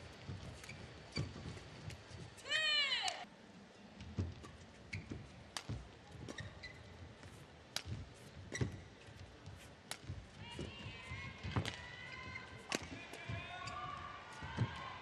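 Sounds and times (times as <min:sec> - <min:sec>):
court shoes squeaking: 0:00.0 - 0:02.5, 0:04.0 - 0:14.9.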